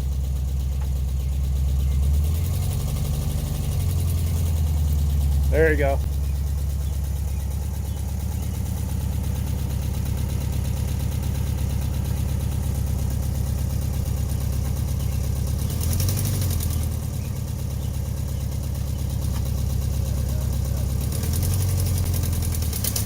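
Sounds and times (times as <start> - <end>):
air-cooled engine running: 0.0 - 23.0.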